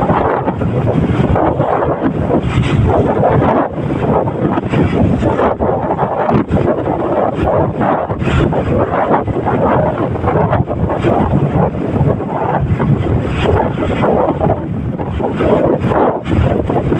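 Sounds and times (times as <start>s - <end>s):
boat running noise: 0.0s - 16.9s
water rushing: 0.0s - 16.9s
wind buffeting microphone: 0.0s - 16.9s.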